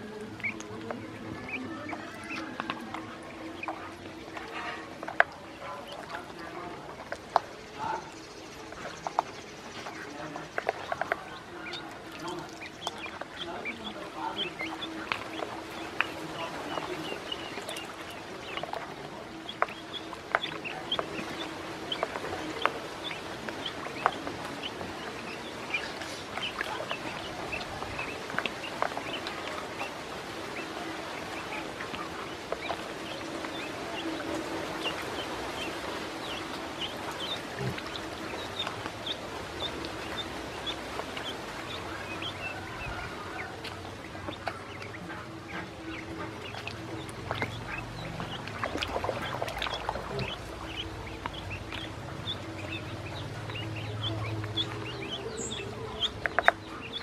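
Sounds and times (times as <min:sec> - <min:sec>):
ducklings peeping: 0:00.0 - 0:57.0
small water splashes: 0:00.0 - 0:57.0.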